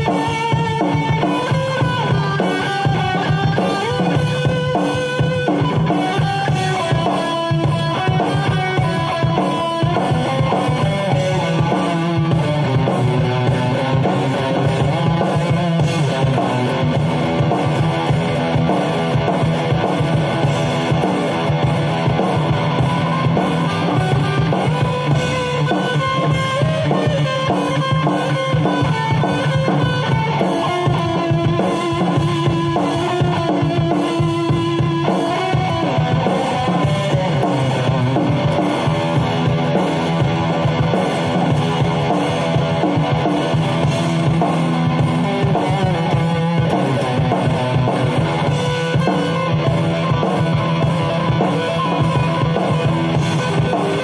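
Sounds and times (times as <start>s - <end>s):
rock drum beat: 0.0s - 54.0s.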